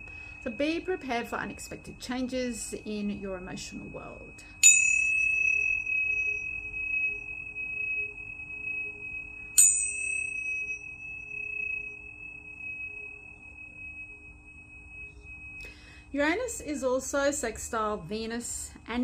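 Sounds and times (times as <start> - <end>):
tuning fork struck: 0.0 - 17.4
tuning fork ringing: 0.0 - 17.5.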